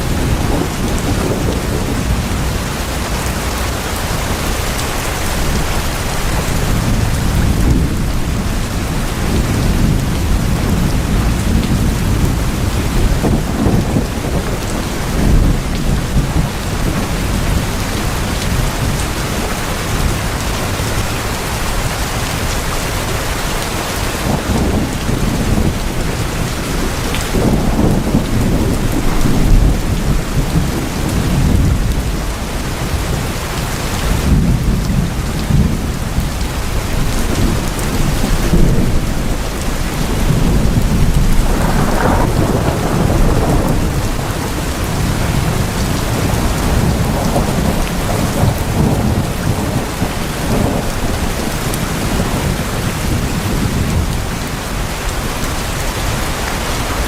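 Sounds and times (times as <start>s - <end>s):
thunder rolling: 0.0s - 23.0s, 23.9s - 33.3s, 34.0s - 57.0s
heavy rain on tin roof: 0.0s - 57.0s.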